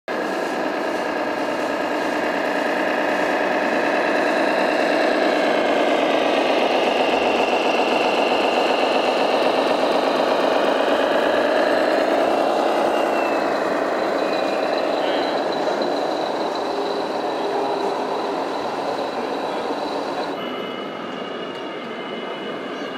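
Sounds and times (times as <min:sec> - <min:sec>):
whir of small motors and gears: 0:00.1 - 0:22.9.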